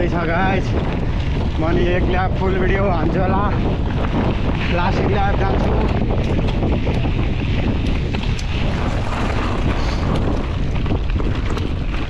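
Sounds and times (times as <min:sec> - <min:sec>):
bike clicks and rattles: 0:00.0 - 0:12.0
tyres rumbling on road: 0:00.0 - 0:12.0
wind buffeting microphone: 0:00.0 - 0:12.0.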